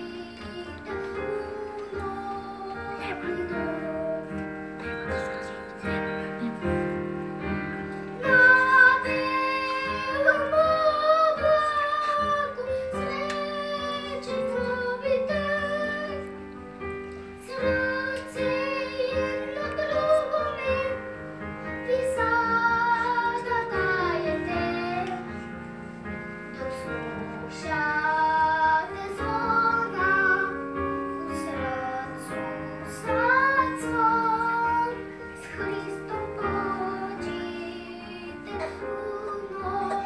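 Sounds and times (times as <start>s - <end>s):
girl singing: 0.0s - 16.4s, 17.4s - 25.6s, 26.4s - 40.0s
instrumental accompaniment: 0.0s - 40.0s.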